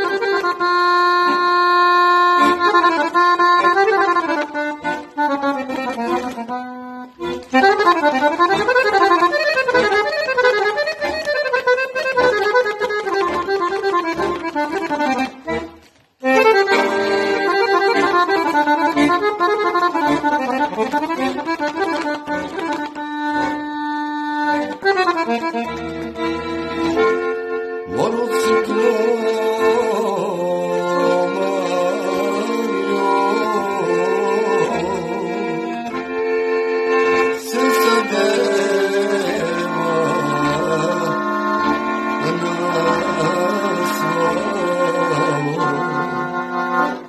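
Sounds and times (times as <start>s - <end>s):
accordion melody: 0.0s - 47.0s.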